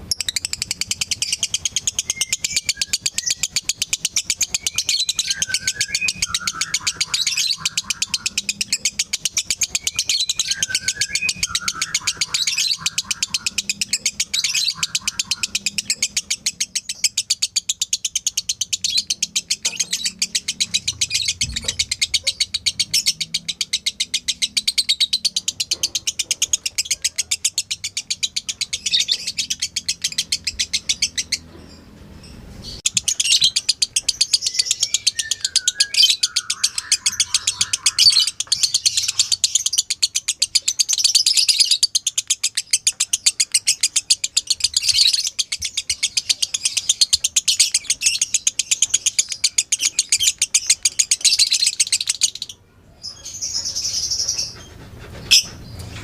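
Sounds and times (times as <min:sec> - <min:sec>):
lovebird high harsh chirps: 0:00.0 - 0:56.0.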